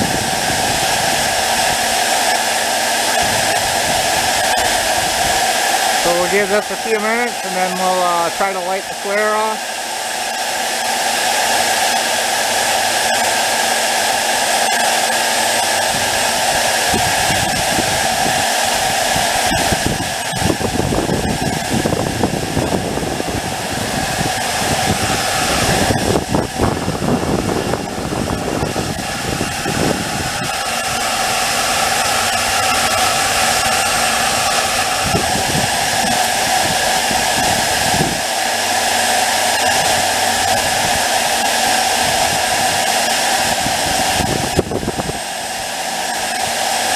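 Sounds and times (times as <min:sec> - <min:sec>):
blower whirring: 0:00.0 - 0:46.9.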